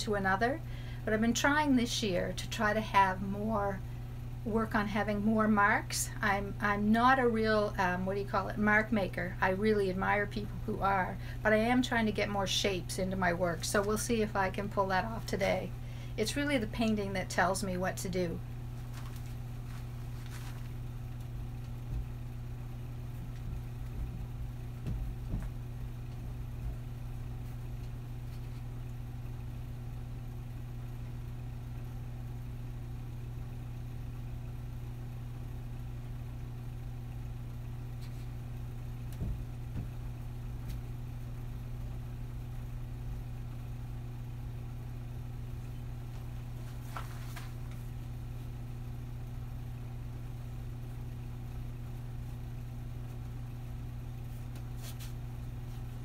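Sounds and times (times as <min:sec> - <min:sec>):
steady low appliance hum: 0:00.0 - 0:56.0.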